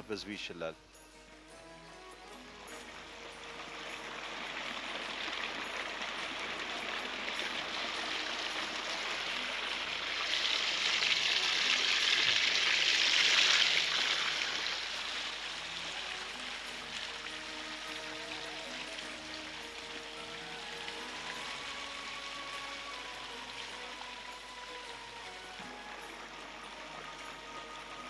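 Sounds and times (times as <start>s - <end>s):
waterfall splashing into pond: 1.9s - 28.0s.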